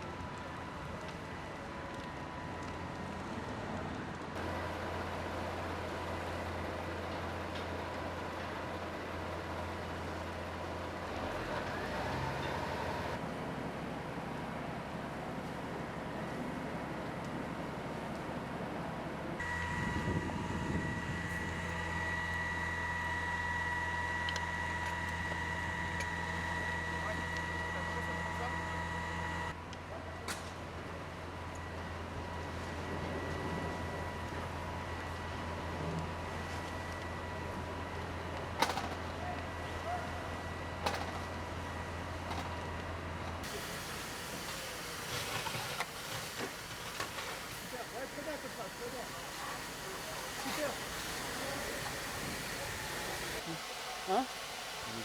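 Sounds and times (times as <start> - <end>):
machine hum with high-pitched whine: 0.0 - 55.0.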